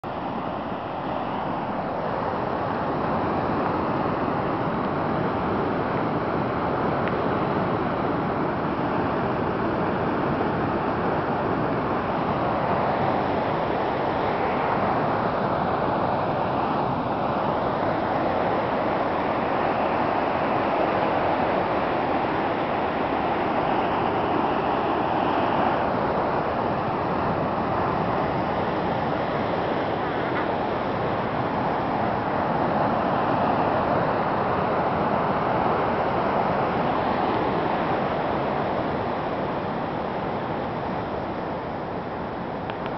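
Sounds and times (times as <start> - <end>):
river rapids rushing: 0.0 - 42.9.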